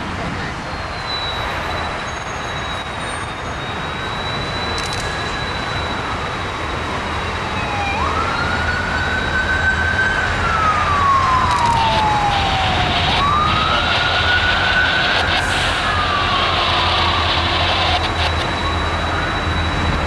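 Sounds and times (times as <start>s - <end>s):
emergency vehicle siren wailing: 0.4s - 20.0s.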